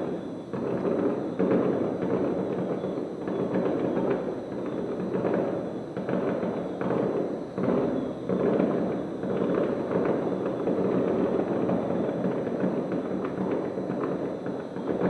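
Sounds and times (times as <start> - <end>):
distant fireworks bangs and crackling: 0.0 - 15.0.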